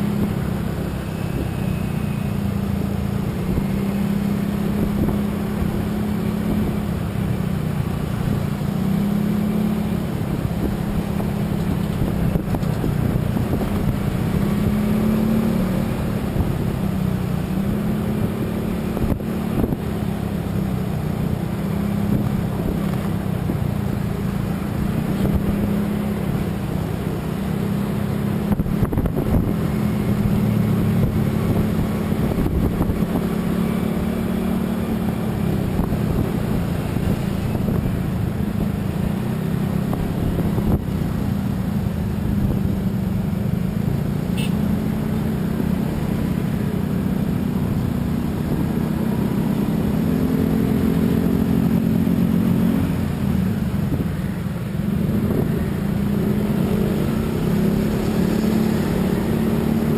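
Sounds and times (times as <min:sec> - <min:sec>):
car engine running steadily: 0:00.0 - 0:59.9
road and wind noise: 0:00.0 - 0:59.9.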